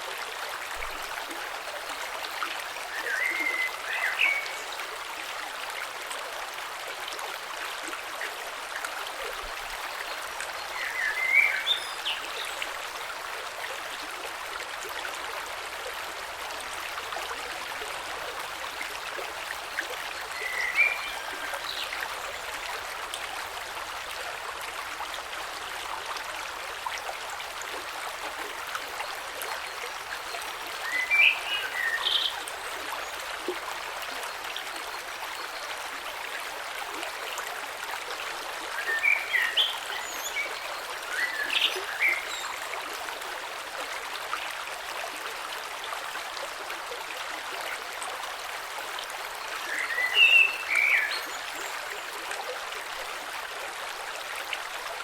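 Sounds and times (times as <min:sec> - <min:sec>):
creek flowing over stones: 0:00.0 - 0:55.0.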